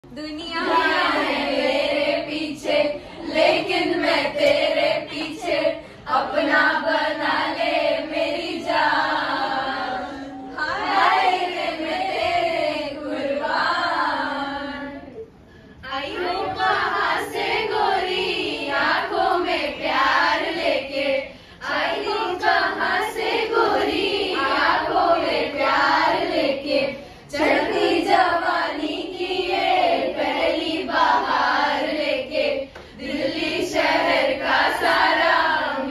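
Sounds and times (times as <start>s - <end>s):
group singing unaccompanied: 0.4s - 15.2s, 15.8s - 35.9s.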